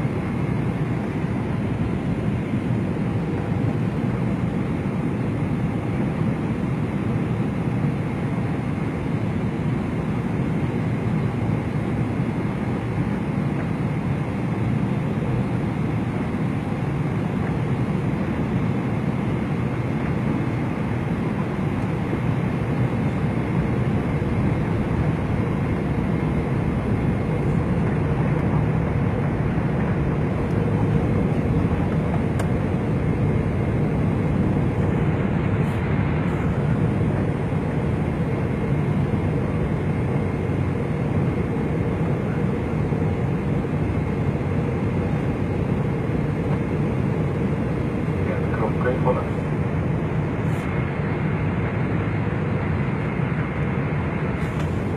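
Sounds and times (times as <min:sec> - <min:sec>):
airliner engines and airflow rush: 0:00.0 - 0:54.9
faint steady whine: 0:00.0 - 0:54.9.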